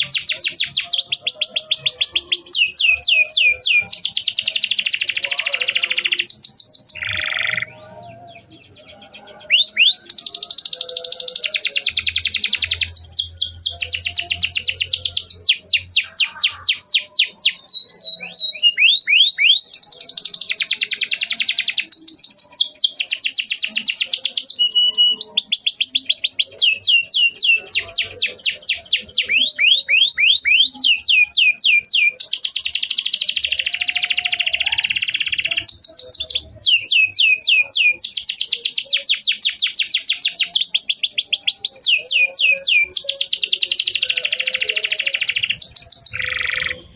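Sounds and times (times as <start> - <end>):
canary singing: 0.0 - 46.9.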